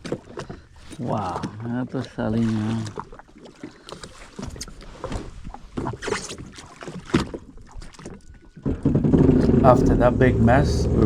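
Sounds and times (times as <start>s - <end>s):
water splashing against hull: 0.0s - 11.0s.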